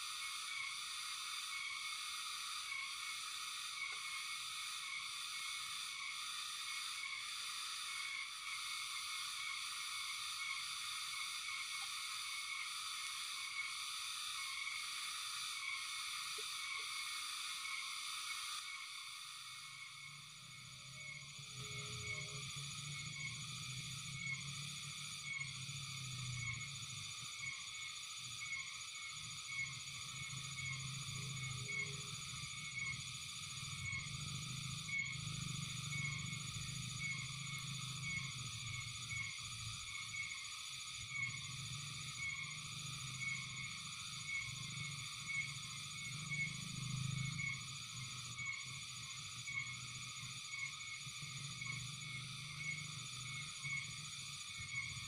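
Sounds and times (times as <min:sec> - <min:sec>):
frogs and insects chorus: 0:00.0 - 0:55.0.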